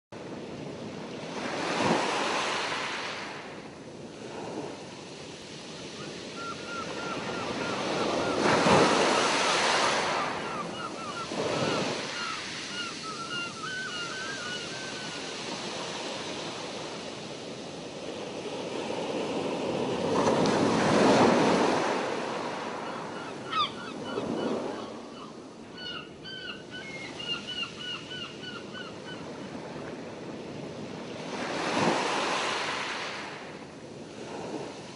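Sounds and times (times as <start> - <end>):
waves washing in: 0.2 - 26.2, 28.6 - 34.9.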